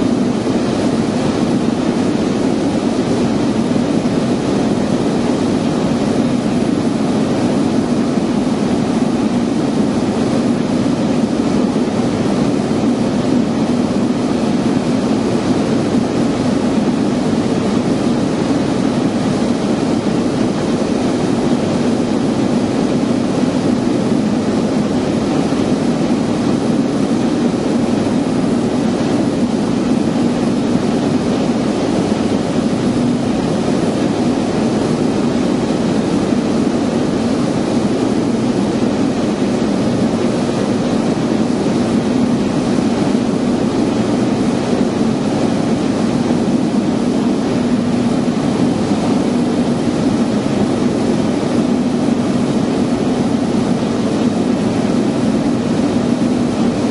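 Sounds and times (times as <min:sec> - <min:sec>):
aircraft engine drone in cabin: 0:00.0 - 0:56.9.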